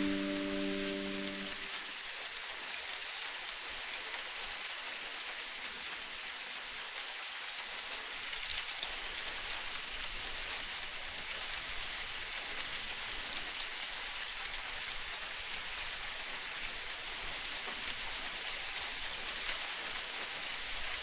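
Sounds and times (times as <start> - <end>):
hiss of water: 0.0 - 21.0.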